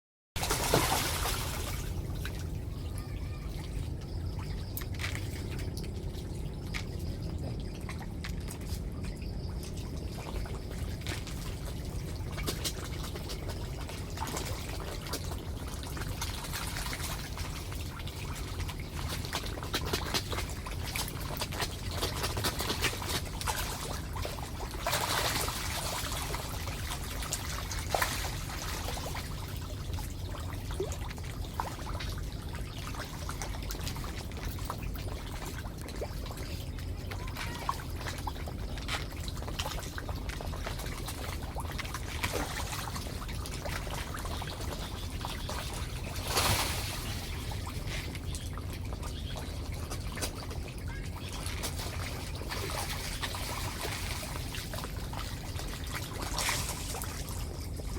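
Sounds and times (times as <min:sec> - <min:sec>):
water trickling and pouring: 0:00.4 - 0:57.9.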